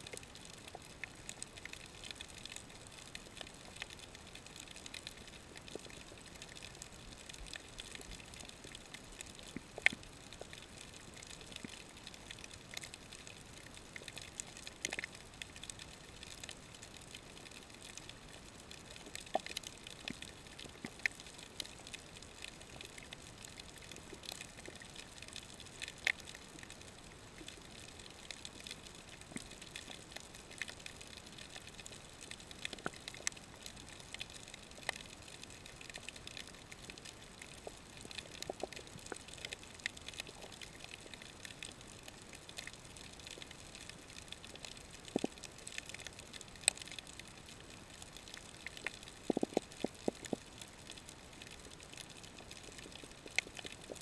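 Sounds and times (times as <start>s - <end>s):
faint steady hiss: 0.0s - 54.0s
sharp clicks and crackles: 0.0s - 54.0s.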